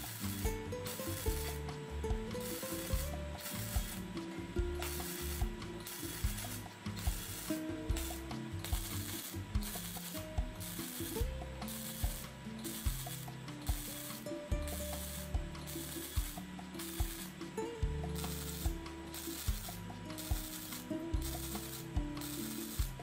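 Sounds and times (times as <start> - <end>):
welding arc crackling: 0.0 - 23.0.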